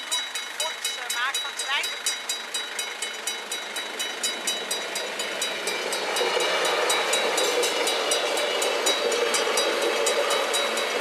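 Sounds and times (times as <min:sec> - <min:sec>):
level crossing bells ringing: 0:00.0 - 0:11.0
passing train running noise: 0:00.0 - 0:11.0.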